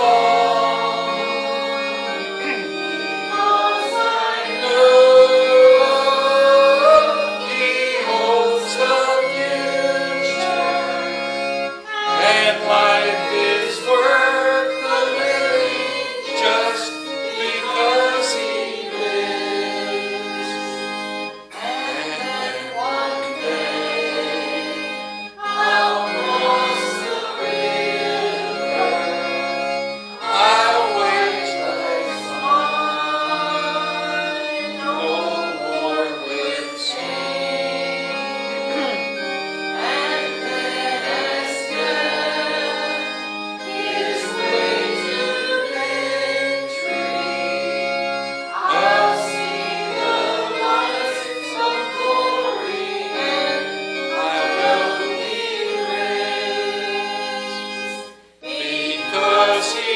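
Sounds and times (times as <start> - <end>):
keyboard held chords: 0.0 - 59.9
people singing a hymn: 0.0 - 59.9.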